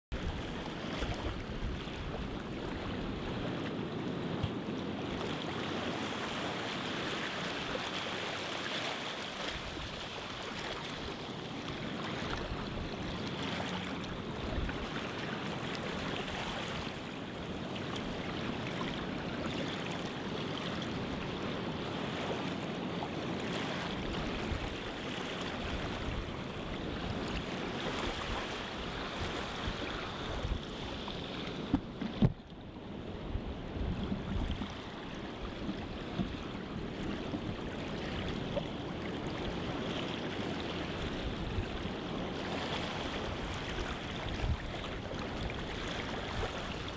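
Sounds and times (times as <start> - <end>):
sea water rushing: 0.1 - 46.9
wind: 0.1 - 46.9.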